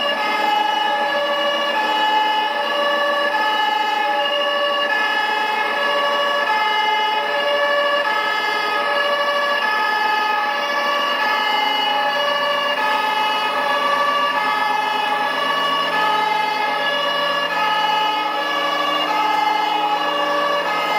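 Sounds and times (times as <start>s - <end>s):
two-tone fire engine siren: 0.0s - 20.9s.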